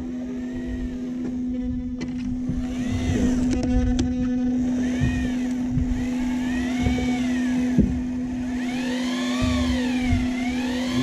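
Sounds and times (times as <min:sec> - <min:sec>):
fishing reel motor whining: 0:00.0 - 0:11.0
steady low hum: 0:00.0 - 0:11.0.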